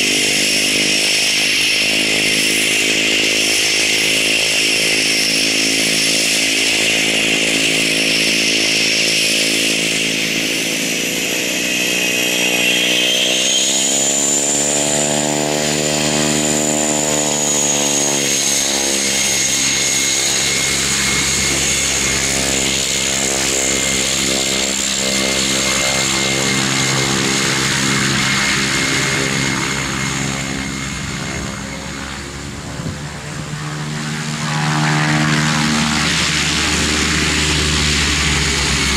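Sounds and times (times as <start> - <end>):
propeller drone: 0.0 - 38.9
turbine whine: 0.0 - 38.9.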